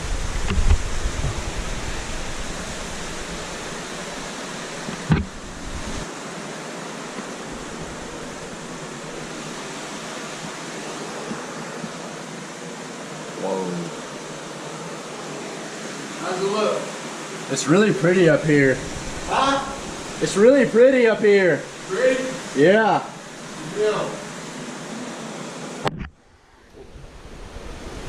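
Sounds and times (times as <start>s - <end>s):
waterfall rushing in cave: 0.0s - 25.9s, 26.8s - 28.0s.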